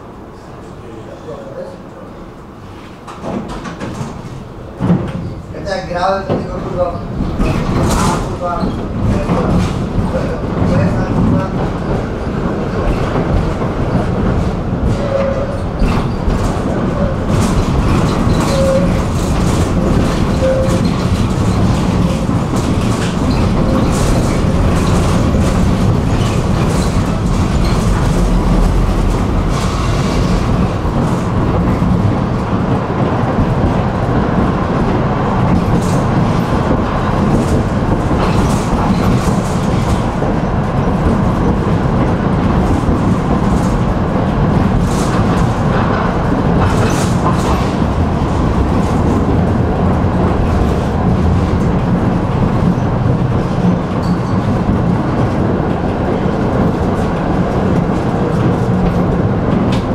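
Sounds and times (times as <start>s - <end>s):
tram wheels rumbling on rails: 0.0s - 59.9s
wheels clicking over rail joints: 6.2s - 59.9s.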